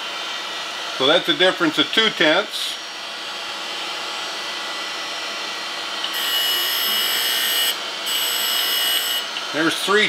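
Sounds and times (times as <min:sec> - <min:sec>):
grinding wheel hiss and whine: 0:00.0 - 0:10.0.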